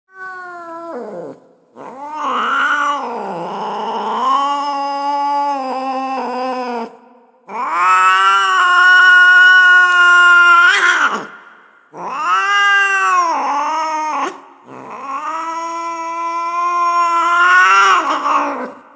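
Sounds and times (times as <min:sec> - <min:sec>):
cat yowling: 0:00.1 - 0:06.9, 0:07.5 - 0:11.3, 0:12.0 - 0:18.8.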